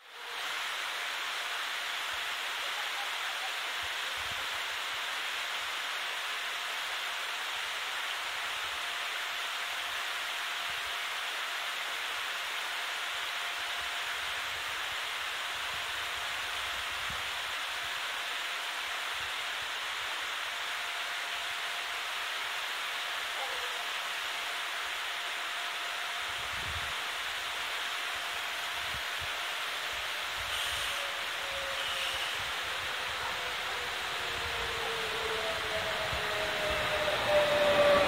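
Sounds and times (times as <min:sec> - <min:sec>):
steady hiss: 0:00.0 - 0:38.0
faint steady whine: 0:05.5 - 0:38.0.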